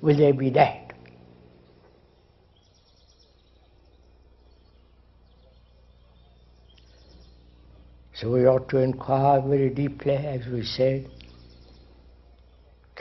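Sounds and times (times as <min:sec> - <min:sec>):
faint low hum: 0:00.0 - 0:13.0
faint bird chirps: 0:00.9 - 0:13.0.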